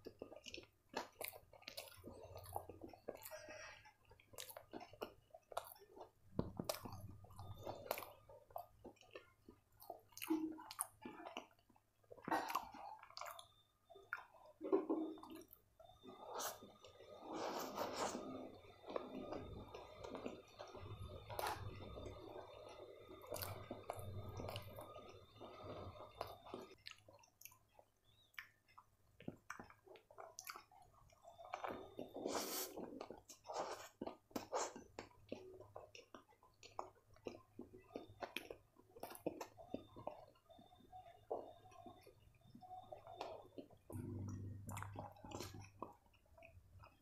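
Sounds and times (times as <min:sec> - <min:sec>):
close-up wet chewing: 0:00.0 - 0:47.0.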